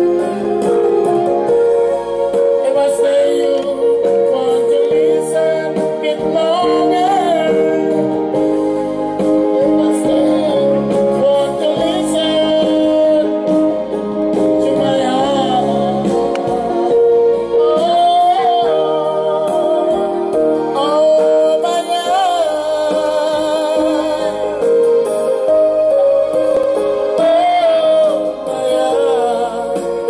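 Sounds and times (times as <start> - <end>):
instrumental backing track: 0.0 - 30.0
person singing amplified: 0.0 - 30.0.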